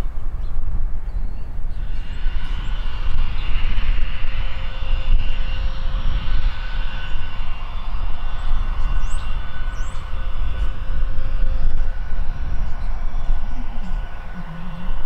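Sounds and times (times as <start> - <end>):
jet engines whining: 0.0 - 15.0
low engine rumble: 0.0 - 15.0.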